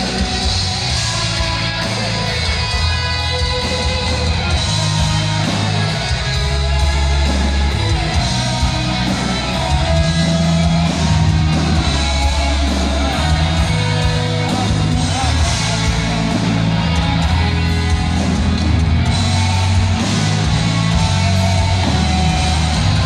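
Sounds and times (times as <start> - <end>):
heavy metal band playing: 0.0 - 23.0.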